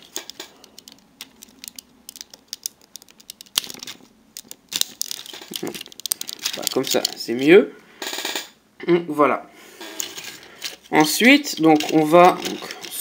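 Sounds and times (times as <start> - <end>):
plastic toy parts clicking: 0.0 - 7.4, 9.9 - 13.0.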